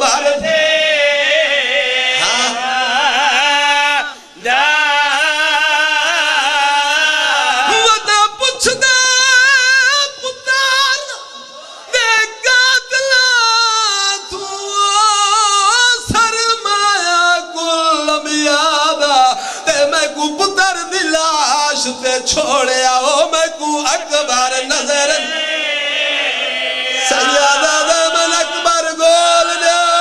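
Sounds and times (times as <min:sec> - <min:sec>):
man chanting: 0:00.0 - 0:30.0.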